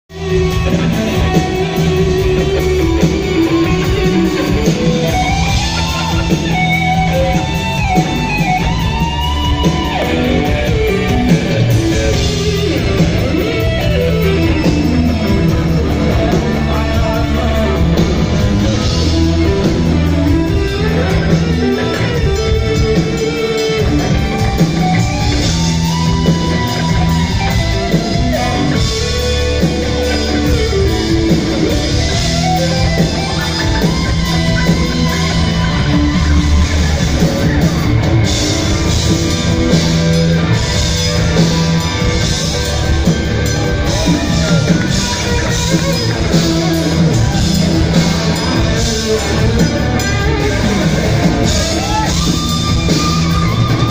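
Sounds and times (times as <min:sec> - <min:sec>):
electric guitar lead: 0:00.1 - 0:53.9.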